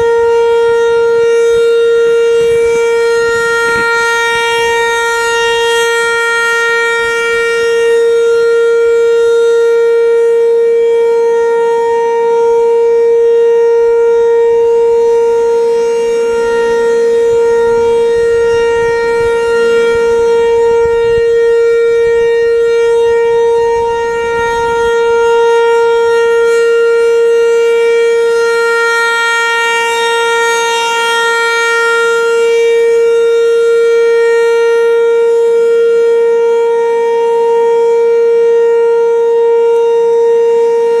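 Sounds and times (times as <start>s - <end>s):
outdoor warning siren steady tone: 0.0s - 41.0s.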